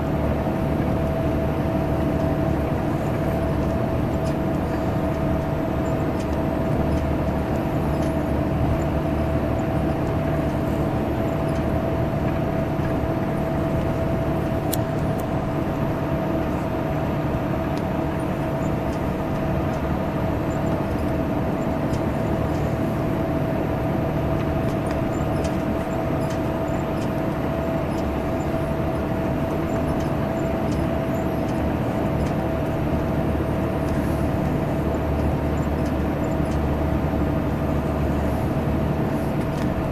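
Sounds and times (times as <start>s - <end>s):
bus engine rumbling at cruise: 0.0s - 39.9s.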